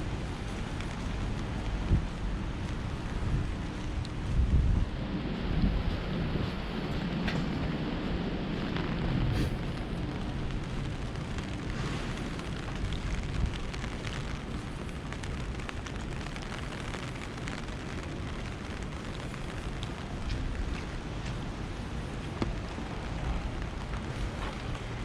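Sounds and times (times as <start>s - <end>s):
rain hissing: 0.0s - 25.0s
raindrops tapping: 0.0s - 25.0s.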